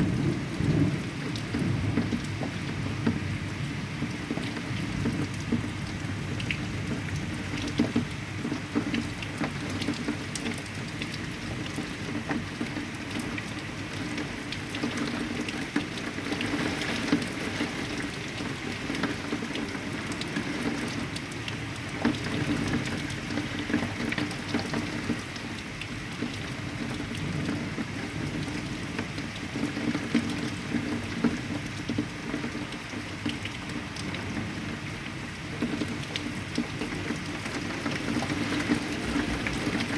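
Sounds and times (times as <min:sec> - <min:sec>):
heavy rain falling: 0:00.0 - 0:39.9
raindrops hitting a surface: 0:00.0 - 0:39.9.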